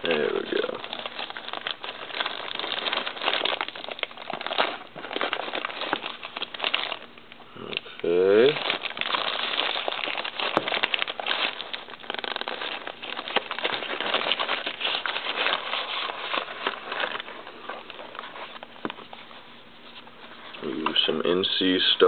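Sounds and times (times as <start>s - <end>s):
plastic mailer bag crinkling: 0.0s - 22.0s.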